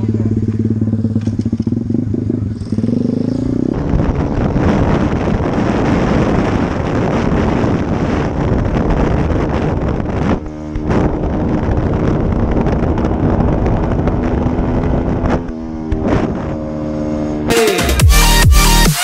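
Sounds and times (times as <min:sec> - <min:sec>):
wind noise on camera: 0:00.0 - 0:17.2
motorbike engine: 0:00.0 - 0:18.4.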